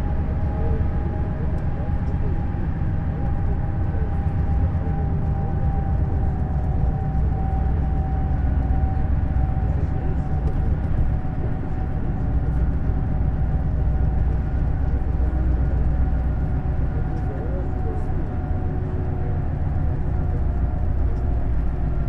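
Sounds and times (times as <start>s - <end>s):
coach engine and road noise: 0.0s - 22.0s.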